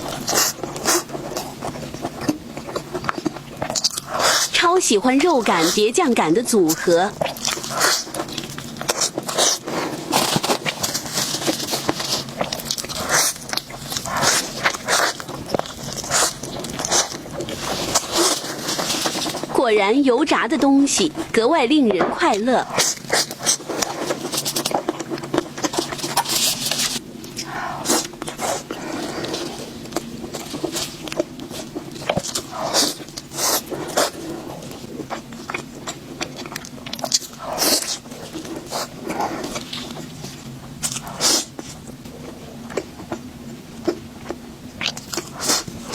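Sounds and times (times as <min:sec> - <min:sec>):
crunchy chewing: 0:00.0 - 0:19.6, 0:22.2 - 0:45.9.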